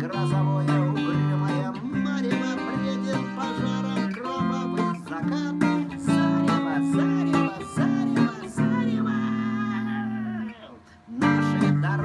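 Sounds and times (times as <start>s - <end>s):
electric guitar chords and riffs: 0.0s - 10.5s, 11.1s - 12.0s.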